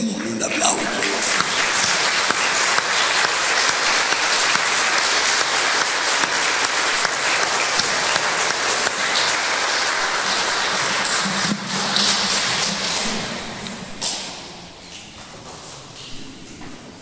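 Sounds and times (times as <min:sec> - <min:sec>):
people clapping: 0:00.0 - 0:15.9.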